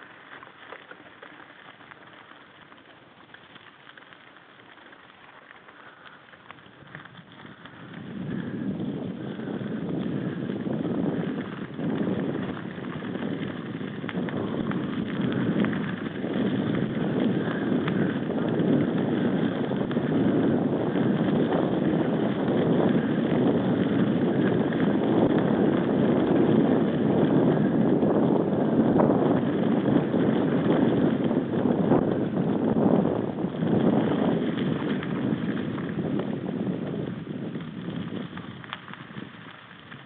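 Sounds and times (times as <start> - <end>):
mountain bike riding rumble: 0.0 - 40.0
wind buffeting microphone: 5.9 - 40.0.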